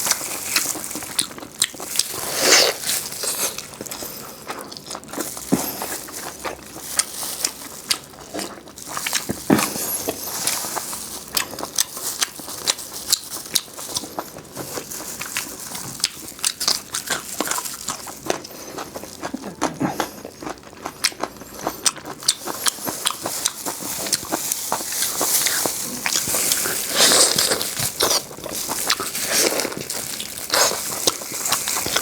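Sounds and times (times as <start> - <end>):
crisp bites and chewing: 0.0 - 32.0.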